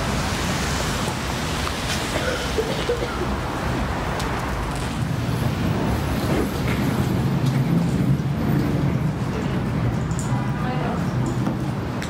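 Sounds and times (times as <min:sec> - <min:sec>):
low rumble of vehicle engines: 0:00.0 - 0:12.0.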